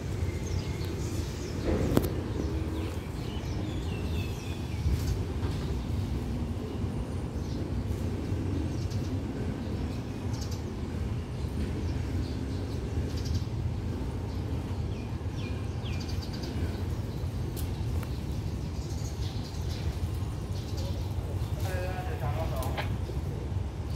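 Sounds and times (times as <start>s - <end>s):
birds chirping: 0.0s - 23.9s
low outdoor rumble: 0.0s - 23.9s.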